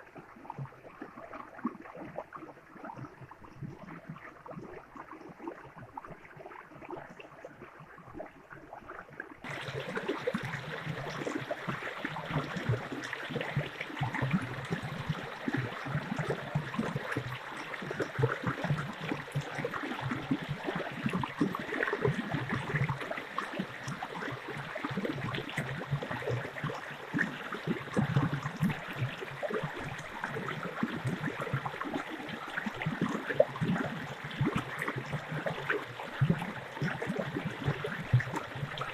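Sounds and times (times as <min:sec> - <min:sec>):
stream gurgling: 0:00.0 - 0:38.9.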